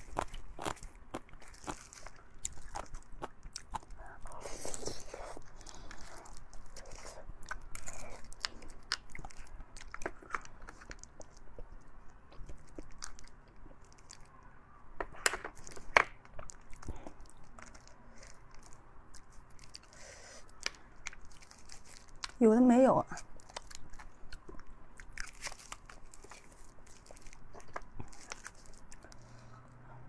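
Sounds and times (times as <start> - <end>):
chewing and biting meat: 0.0 - 14.4, 15.5 - 22.4, 23.2 - 29.8.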